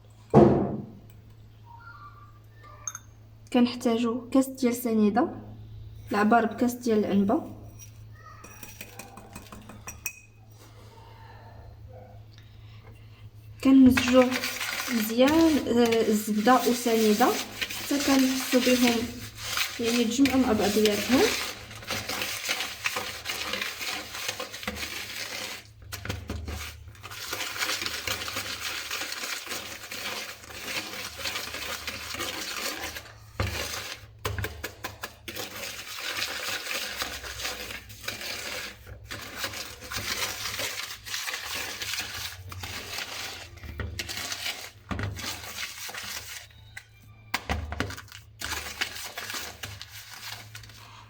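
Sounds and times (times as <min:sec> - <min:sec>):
utensil scraping and clinking bowl: 0:02.8 - 0:03.2, 0:05.7 - 0:10.8, 0:12.6 - 0:51.0.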